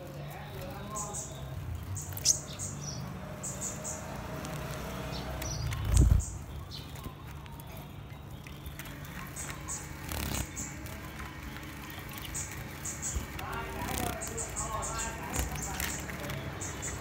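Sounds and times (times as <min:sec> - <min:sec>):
birds chirping: 0:00.0 - 0:17.0
wings fluttering: 0:00.0 - 0:17.0.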